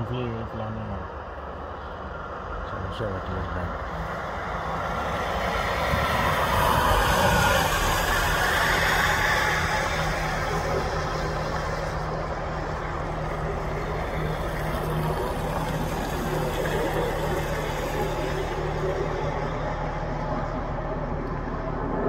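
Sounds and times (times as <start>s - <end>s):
turboprop aircraft engines droning: 0.0s - 22.0s.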